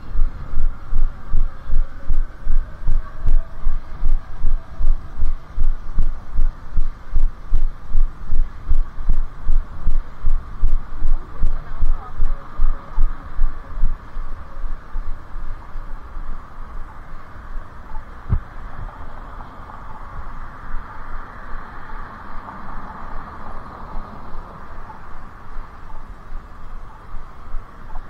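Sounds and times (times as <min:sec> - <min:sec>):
faint city traffic hum: 0:00.0 - 0:28.0.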